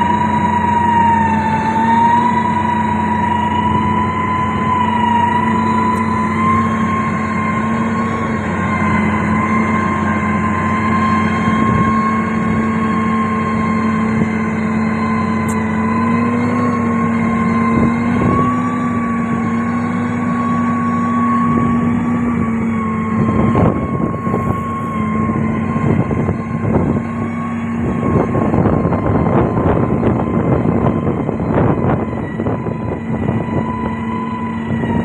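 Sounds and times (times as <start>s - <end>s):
diesel engine drone: 0.0s - 35.0s.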